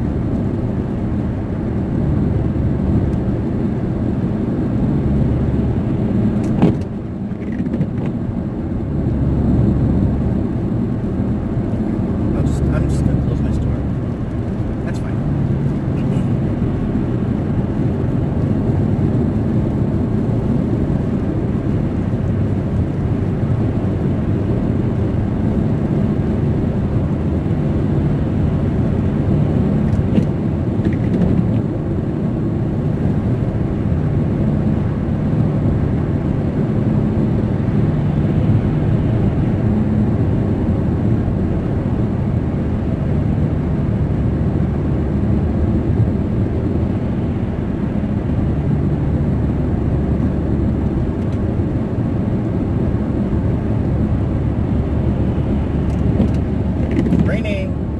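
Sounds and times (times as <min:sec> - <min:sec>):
car cabin road and engine rumble: 0:00.0 - 0:57.9.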